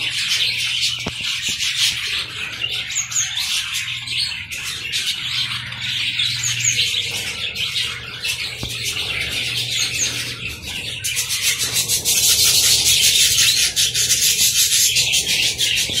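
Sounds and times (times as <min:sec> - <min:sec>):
budgerigars chattering and chirping: 0:00.0 - 0:16.0.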